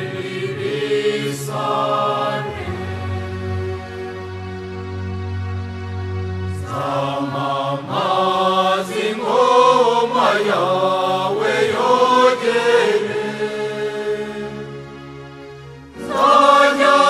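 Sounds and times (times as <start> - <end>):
voices singing a slow hymn: 0.0 - 5.3, 6.4 - 17.0
sustained low accompaniment: 0.0 - 17.0.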